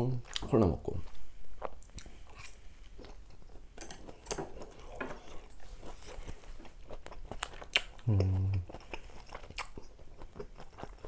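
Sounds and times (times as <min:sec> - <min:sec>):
person chewing food: 0:00.2 - 0:11.0.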